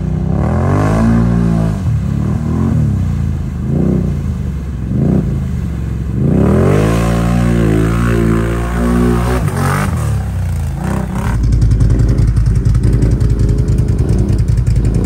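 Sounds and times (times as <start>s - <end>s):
engine revving: 0.0s - 5.6s, 6.2s - 15.0s.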